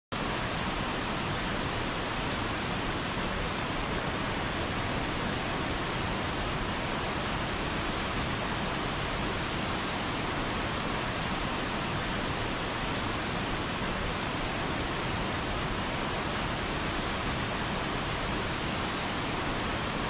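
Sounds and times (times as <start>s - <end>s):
waterfall rushing over rocks: 0.2s - 20.0s.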